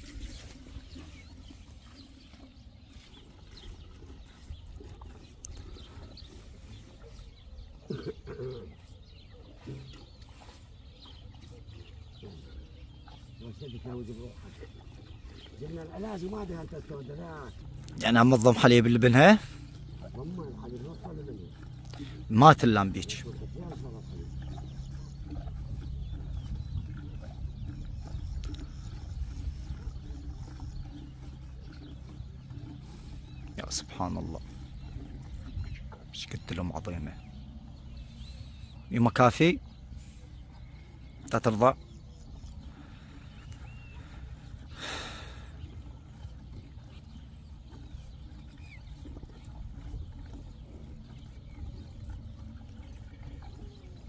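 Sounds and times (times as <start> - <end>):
farm animal low calls: 0.0 - 54.0.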